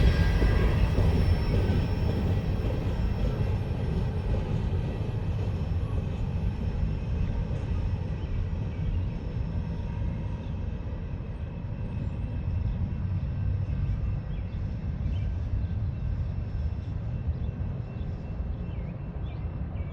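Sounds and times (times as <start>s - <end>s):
freight train rumbling on track: 0.0s - 19.9s.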